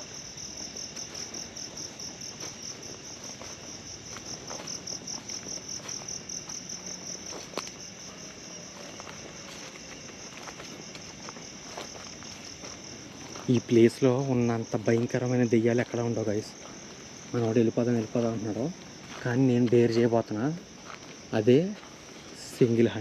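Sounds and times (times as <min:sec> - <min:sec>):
crickets chirping: 0:00.0 - 0:23.0
footsteps on dry leaves: 0:00.0 - 0:23.0.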